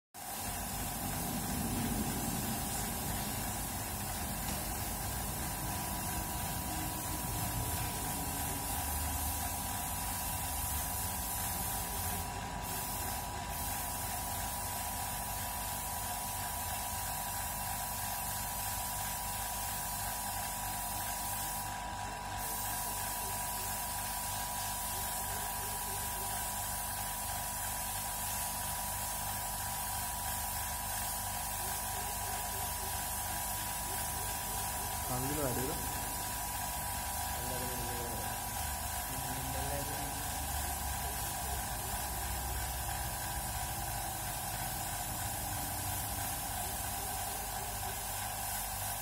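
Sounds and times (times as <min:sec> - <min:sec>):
spray gun hissing: 0:00.2 - 0:49.0.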